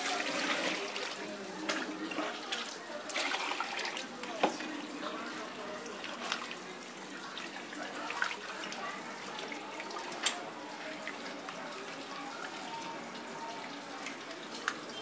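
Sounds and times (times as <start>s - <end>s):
water sloshing in a steel bowl: 0.0s - 15.0s.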